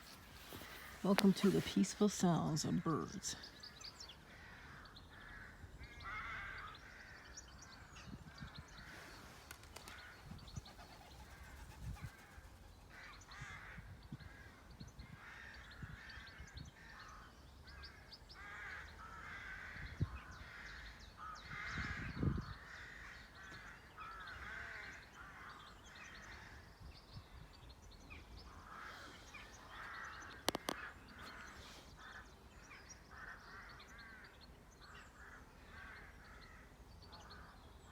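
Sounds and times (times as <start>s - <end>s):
birds calling: 0.0s - 14.5s, 15.1s - 37.9s.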